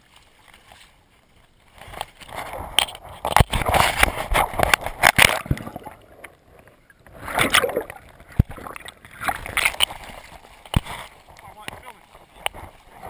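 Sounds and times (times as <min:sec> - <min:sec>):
stream water splashing: 0:00.0 - 0:13.0.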